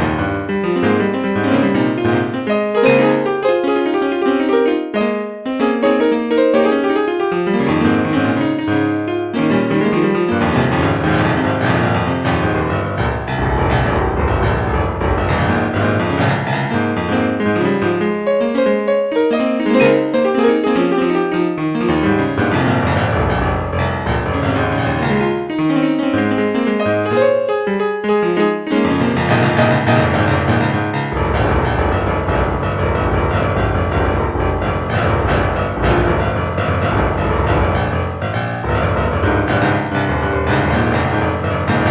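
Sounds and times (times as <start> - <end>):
slow piano chords: 0.0 - 27.6, 28.7 - 41.9.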